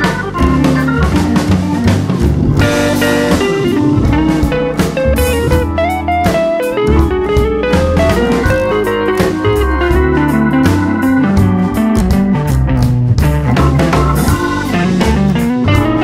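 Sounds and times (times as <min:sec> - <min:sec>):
blues guitar melody: 0:00.0 - 0:16.0
drum kit beat: 0:00.0 - 0:16.0.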